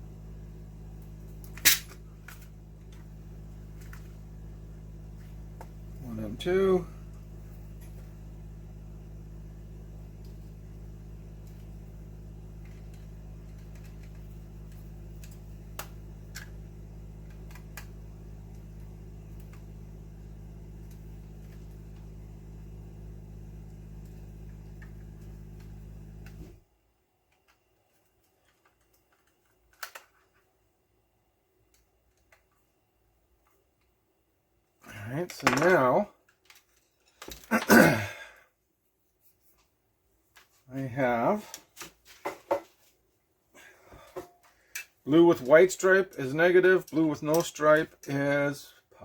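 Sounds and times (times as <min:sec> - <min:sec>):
mechanical hum: 0:00.0 - 0:49.0.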